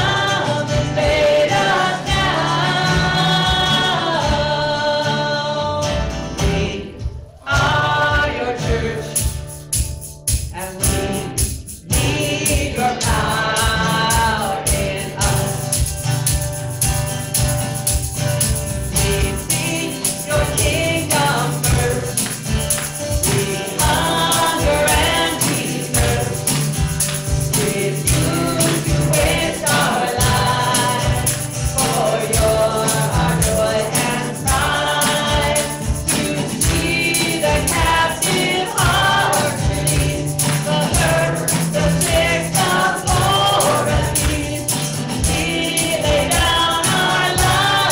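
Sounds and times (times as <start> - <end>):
group singing worship song: 0.0 - 9.6, 10.5 - 47.9
instruments with steady beat: 6.4 - 47.9.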